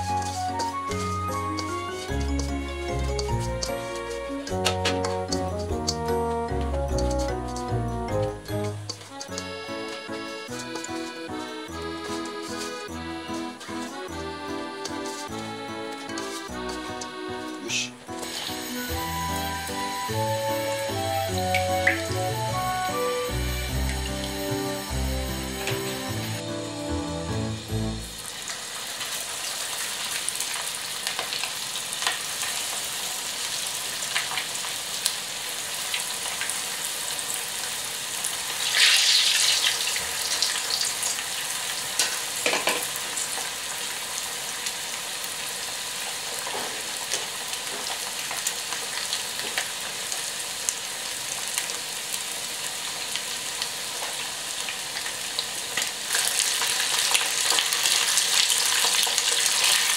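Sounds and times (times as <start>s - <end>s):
chicken deep-frying in oil: 0.0s - 59.9s.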